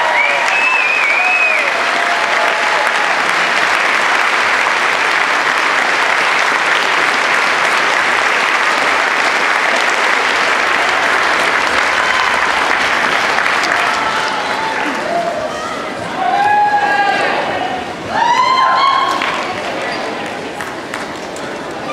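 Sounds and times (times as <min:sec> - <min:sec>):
crowd applause: 0:00.0 - 0:21.9.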